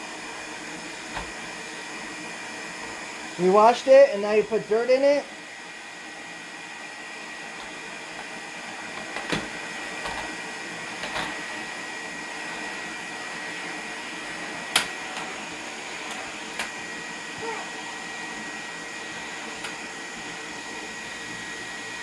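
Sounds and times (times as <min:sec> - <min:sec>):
vacuum cleaner whine: 0:00.0 - 0:22.0.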